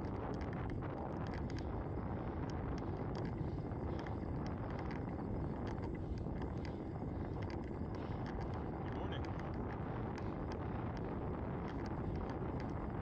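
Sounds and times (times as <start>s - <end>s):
bicycle rolling on pavement: 0.0s - 13.0s
light clicks and rattles: 0.0s - 13.0s
wind on microphone: 0.0s - 13.0s.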